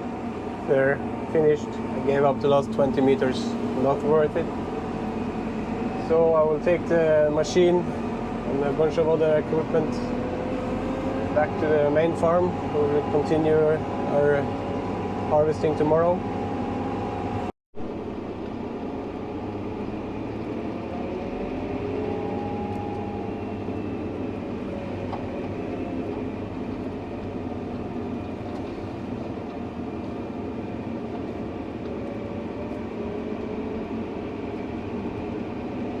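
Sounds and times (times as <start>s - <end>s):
tractor engine droning: 0.0s - 36.0s.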